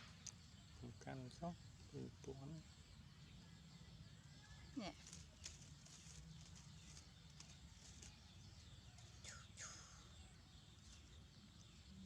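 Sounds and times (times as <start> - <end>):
bird chirping: 0.0 - 12.0
faint outdoor ambience: 0.0 - 12.0.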